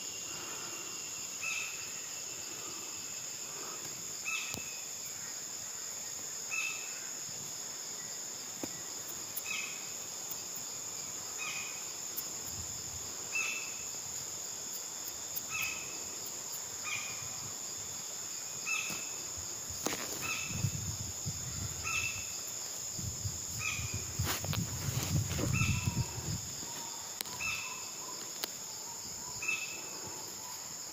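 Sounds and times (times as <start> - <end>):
high-pitched insect chorus: 0.0 - 30.9.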